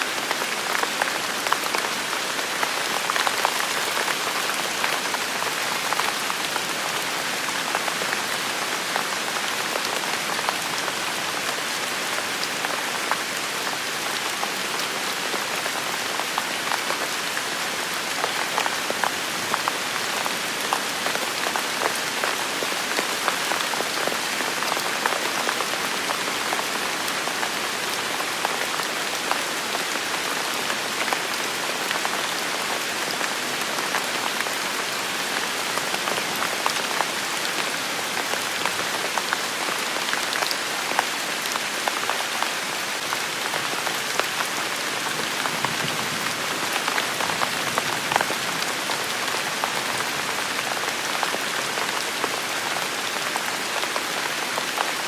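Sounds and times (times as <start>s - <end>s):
rain on a hard surface: 0.0s - 55.0s.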